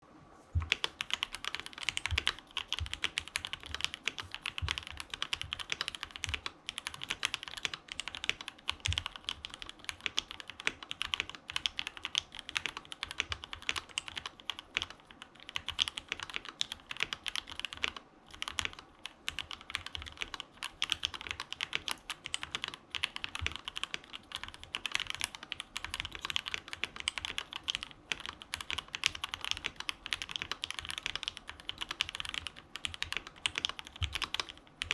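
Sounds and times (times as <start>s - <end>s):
typing on mechanical keyboard: 0.6s - 34.9s.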